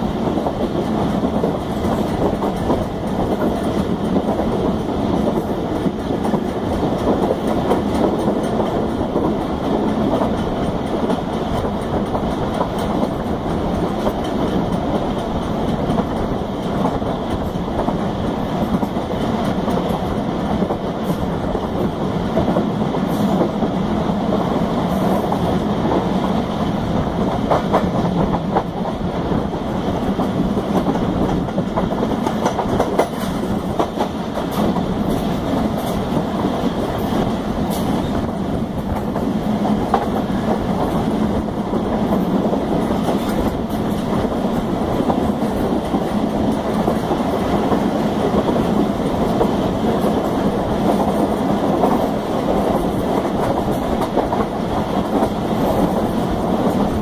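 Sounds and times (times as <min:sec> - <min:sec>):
train carriage rumble: 0:00.0 - 0:57.0
train wheels clacking: 0:00.0 - 0:57.0.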